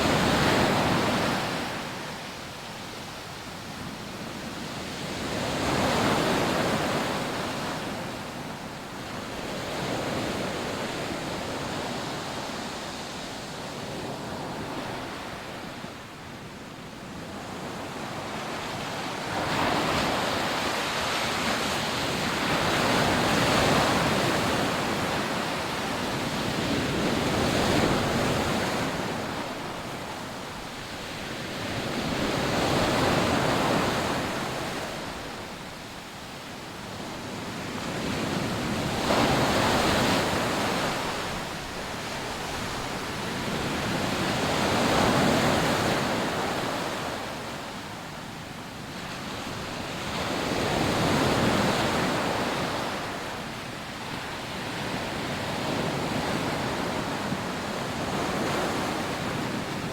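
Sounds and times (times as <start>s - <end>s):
sea waves breaking on beach: 0.0s - 16.0s, 17.2s - 36.0s, 36.7s - 59.9s
wind: 0.0s - 59.9s.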